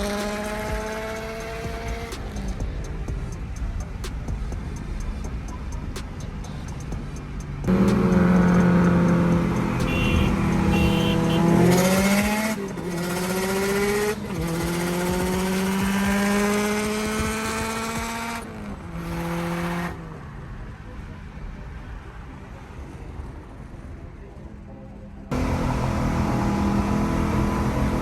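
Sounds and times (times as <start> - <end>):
car engine accelerating through gears: 0.0 - 20.3, 25.3 - 28.0.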